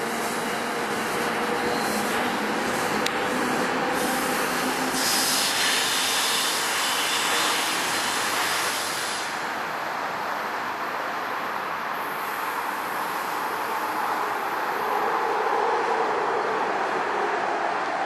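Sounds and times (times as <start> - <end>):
train wheels rushing on rail: 0.0 - 18.0.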